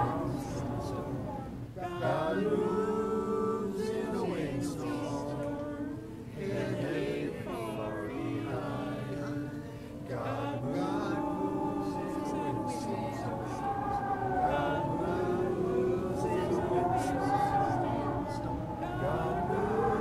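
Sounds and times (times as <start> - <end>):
choir singing sustained chords: 0.0 - 20.0.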